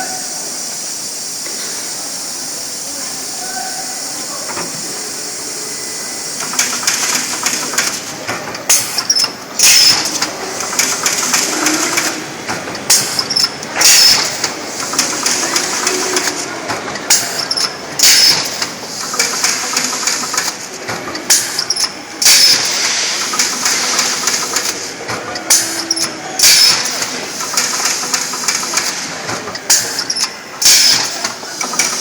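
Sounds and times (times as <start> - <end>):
hiss of air: 0.0 - 32.0.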